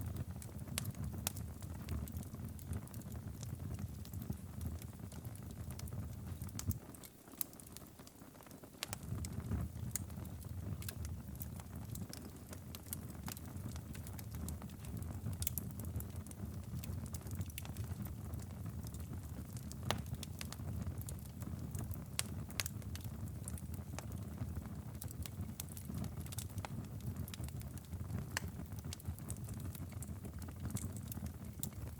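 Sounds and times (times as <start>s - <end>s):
low rumble of flames: 0.0s - 7.6s, 8.5s - 31.9s
wood fire crackling: 0.0s - 31.9s.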